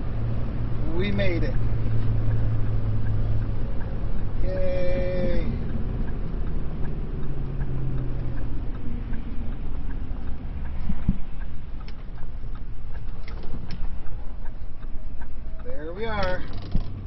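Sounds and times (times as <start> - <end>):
engine and road rumble: 0.0 - 17.0
turn signal ticking: 0.0 - 17.0.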